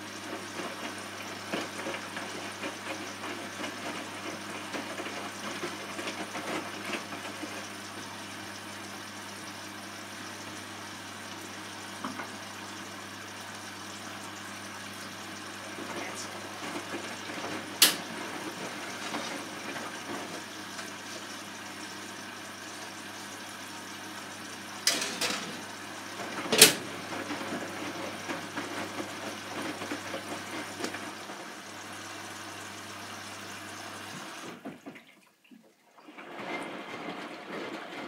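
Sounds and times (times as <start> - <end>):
washing machine sloshing: 0.0 - 38.0.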